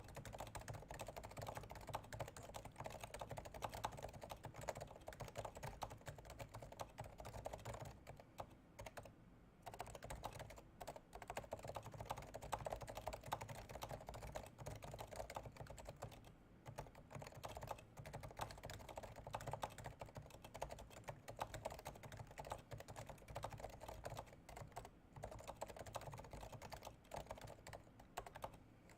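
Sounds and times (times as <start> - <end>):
soft muted keyboard typing: 0.0 - 28.9.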